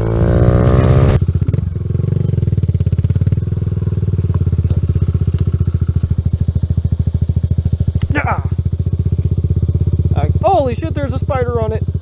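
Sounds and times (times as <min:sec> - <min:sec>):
motorcycle engine puttering: 0:00.0 - 0:12.0.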